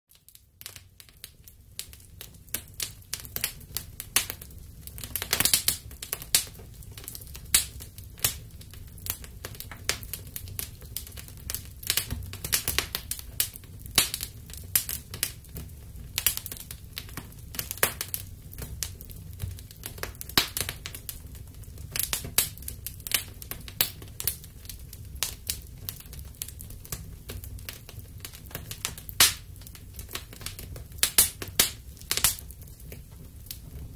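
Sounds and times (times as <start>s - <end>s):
wood fire crackling: 0.1s - 33.9s.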